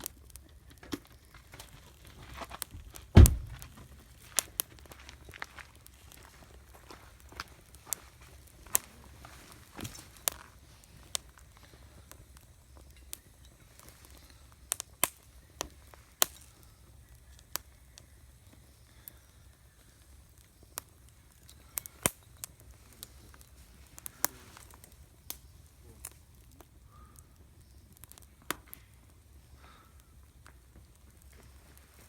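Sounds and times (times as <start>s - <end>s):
campfire pops and crackles: 0.0s - 32.0s.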